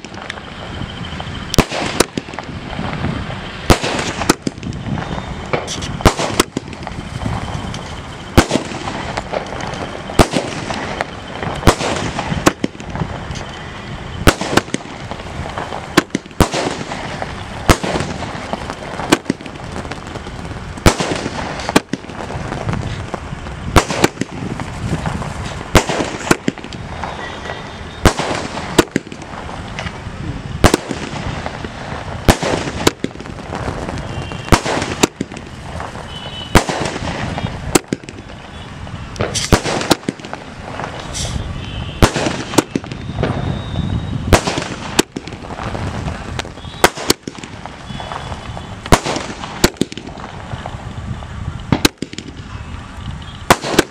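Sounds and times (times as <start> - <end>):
firework bangs: 0.0 - 53.9
firework stars crackling: 0.0 - 53.9.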